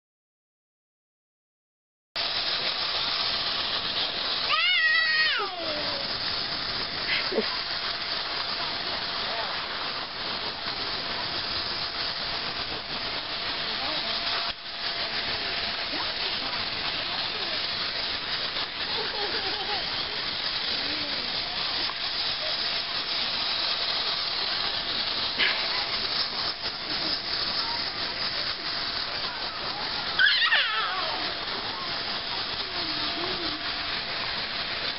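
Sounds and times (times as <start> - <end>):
toy train motor whirring: 2.2 - 34.9.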